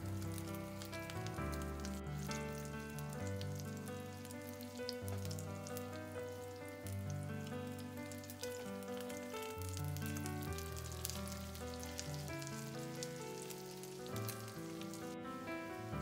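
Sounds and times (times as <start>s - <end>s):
background music: 0.0s - 16.0s
patties sizzling in hot oil: 0.0s - 16.0s.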